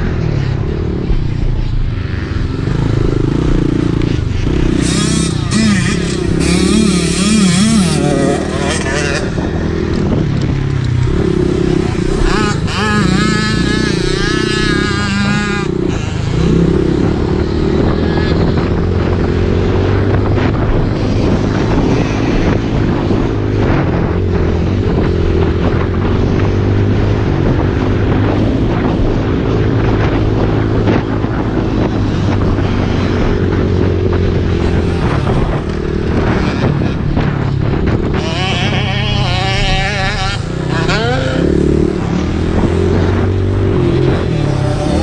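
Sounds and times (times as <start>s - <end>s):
dirt bike engine running: 0.0s - 45.0s.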